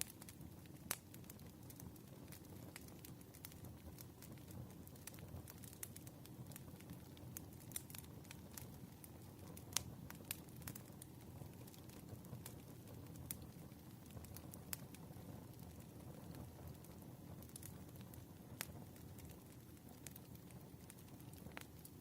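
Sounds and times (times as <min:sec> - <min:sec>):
fire crackles and pops: 0:00.0 - 0:22.0
flames rumbling: 0:00.0 - 0:22.0.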